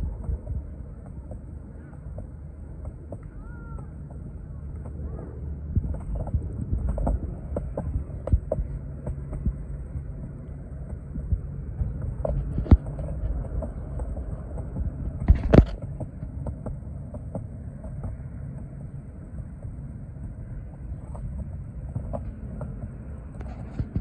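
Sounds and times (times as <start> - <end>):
skateboard wheels rolling on pavement: 0.0 - 24.0.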